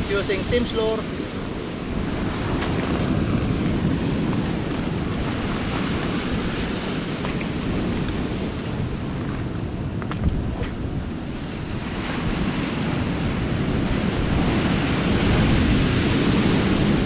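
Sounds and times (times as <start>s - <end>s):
waves washing in: 0.0s - 17.0s
wind buffeting microphone: 0.0s - 17.0s.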